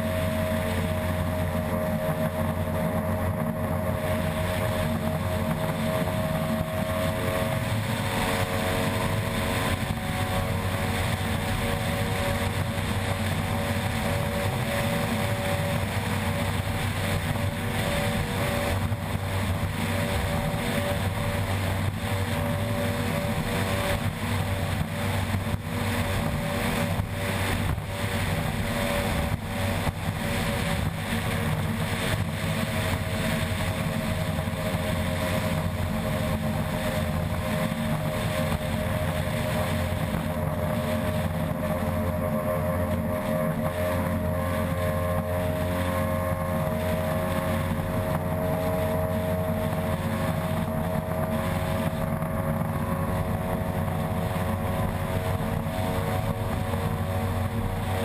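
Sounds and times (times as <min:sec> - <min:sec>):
boat engine running hard: 0:00.0 - 0:58.0
wind and water rushing: 0:00.0 - 0:58.0.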